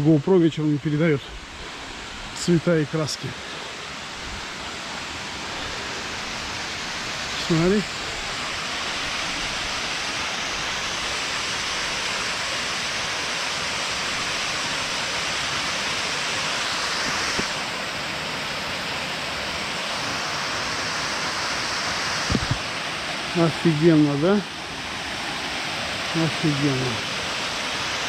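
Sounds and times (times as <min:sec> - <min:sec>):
waterfall rushing: 0:00.7 - 0:28.0.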